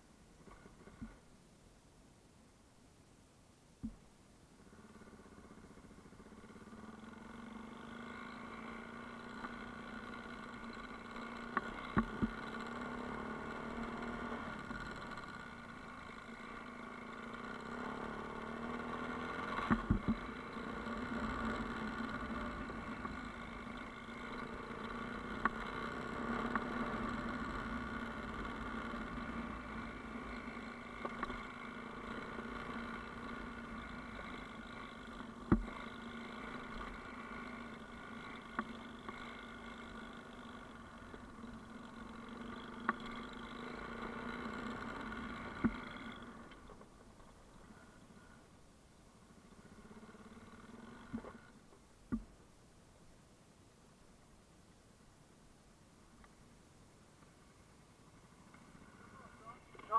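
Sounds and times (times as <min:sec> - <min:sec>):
vehicle engine running: 0:04.6 - 0:52.5, 0:57.2 - 0:59.9.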